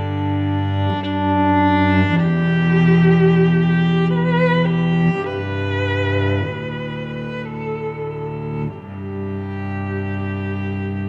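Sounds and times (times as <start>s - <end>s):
slow low sustained music: 0.0s - 11.0s.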